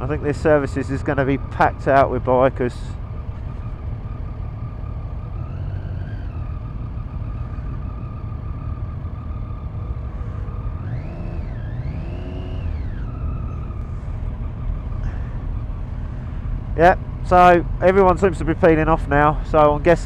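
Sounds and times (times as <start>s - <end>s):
motorcycle engine whine: 0.0s - 20.0s.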